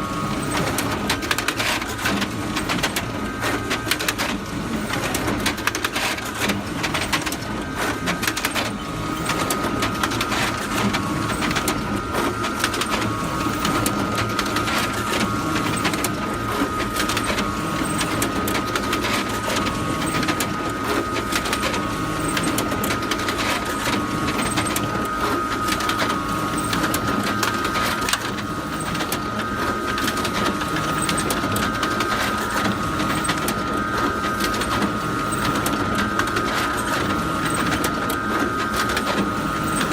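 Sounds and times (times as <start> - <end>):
photocopier whirring and clicking: 0.0 - 39.9.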